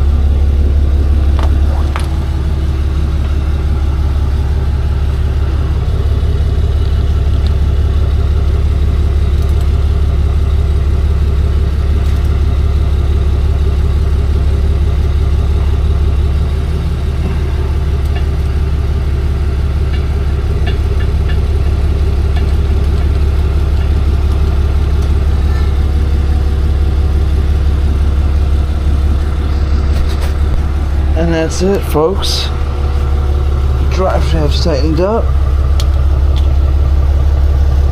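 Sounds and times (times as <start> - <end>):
tow truck engine idling: 0.0 - 37.9.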